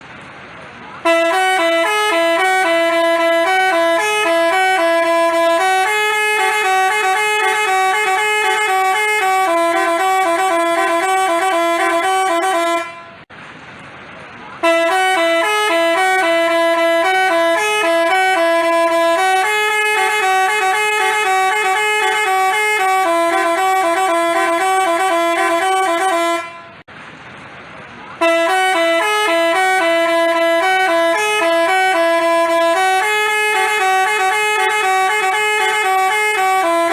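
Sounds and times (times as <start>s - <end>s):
musical bus horn playing tune: 1.0s - 13.3s, 14.6s - 26.9s, 28.2s - 36.9s.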